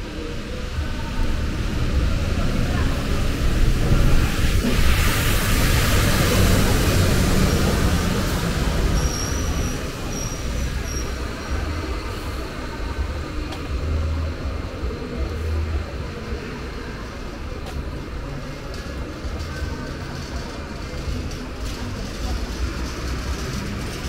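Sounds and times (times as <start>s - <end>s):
bus engine: 0.0s - 24.0s
traffic rumble: 0.0s - 24.0s.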